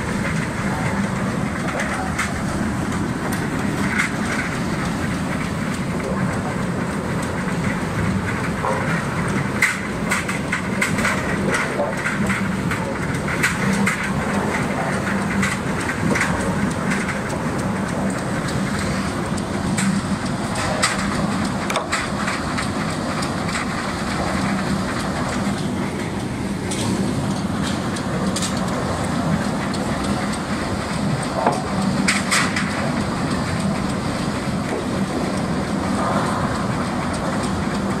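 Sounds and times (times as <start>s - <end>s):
logs rattling in debarker: 0.0s - 38.0s.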